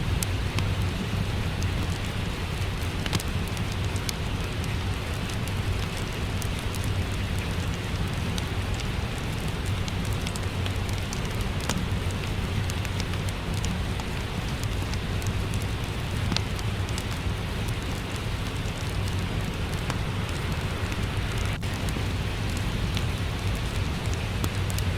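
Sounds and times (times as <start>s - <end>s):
steady rain: 0.0s - 24.9s
wood fire crackling: 0.0s - 24.9s.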